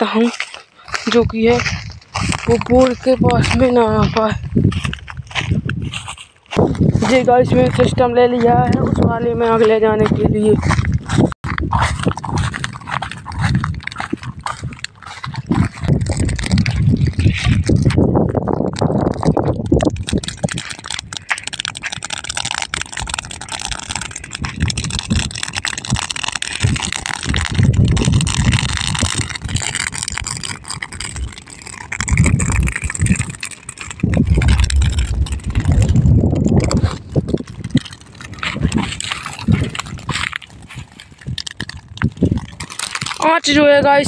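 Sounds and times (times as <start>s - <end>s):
burning stubble crackling: 0.0s - 44.0s
wind gusting on microphone: 0.0s - 44.0s.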